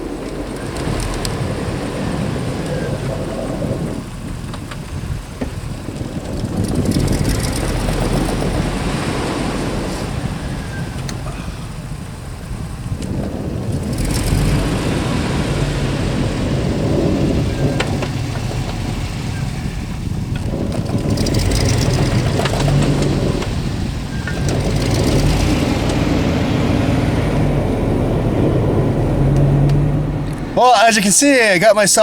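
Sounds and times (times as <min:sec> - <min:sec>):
truck engine revving: 0:00.0 - 0:31.6.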